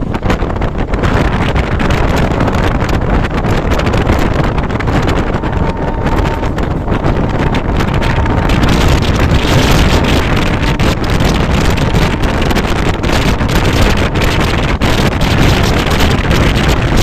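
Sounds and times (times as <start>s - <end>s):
train wheels rumbling on track: 0.0s - 17.0s
wind rushing over microphone: 0.0s - 17.0s.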